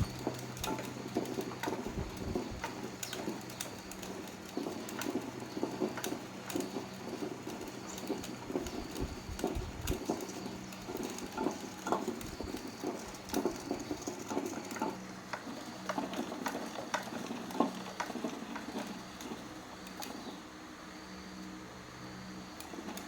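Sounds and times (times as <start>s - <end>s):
hand tools tapping on metal: 0.0s - 20.3s
steady low hum: 0.0s - 23.0s.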